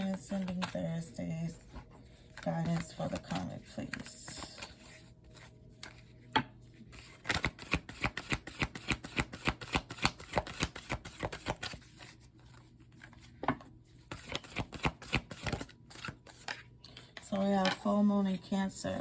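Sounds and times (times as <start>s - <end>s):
cards being shuffled: 0.0s - 1.1s, 2.0s - 6.2s, 6.9s - 13.4s, 14.0s - 17.8s.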